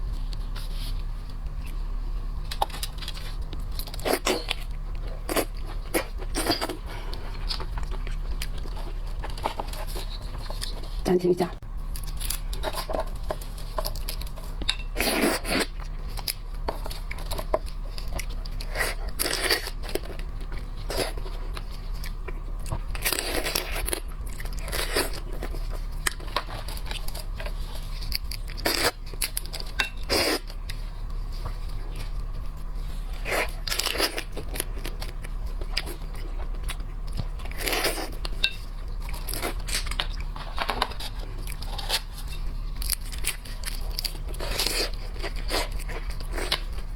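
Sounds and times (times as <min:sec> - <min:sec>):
crunchy chewing: 0:00.0 - 0:11.1, 0:11.8 - 0:46.9
steady low hum: 0:00.0 - 0:46.9.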